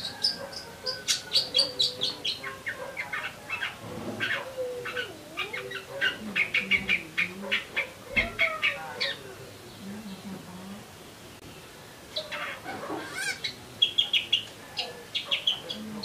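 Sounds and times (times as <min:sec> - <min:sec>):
bird chattering high chirps: 0:00.0 - 0:09.2, 0:12.1 - 0:16.0.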